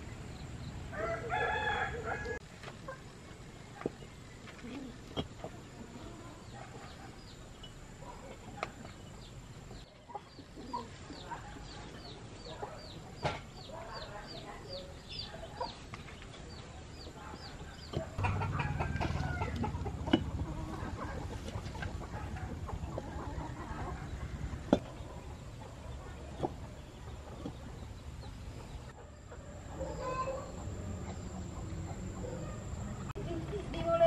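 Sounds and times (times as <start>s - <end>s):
chickens clucking: 2.0s - 34.0s.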